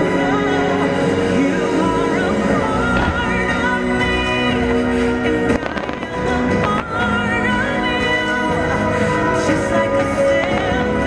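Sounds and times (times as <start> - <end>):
loud music: 0.0 - 11.0.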